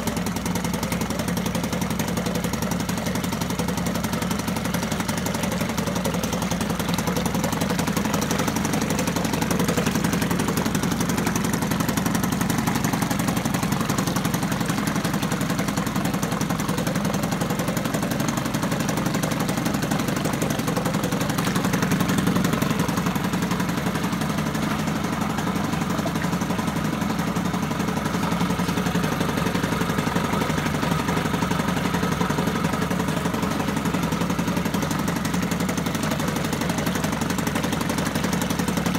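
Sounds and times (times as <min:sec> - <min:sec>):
outboard motor running: 0:00.0 - 0:38.9
water churning: 0:00.0 - 0:38.9.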